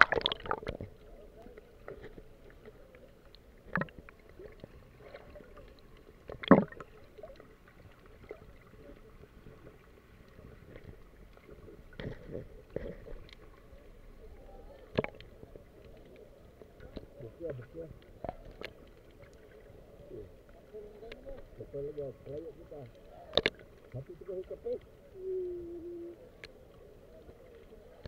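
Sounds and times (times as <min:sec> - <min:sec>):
underwater sloshing and gurgling: 0:00.0 - 0:28.0.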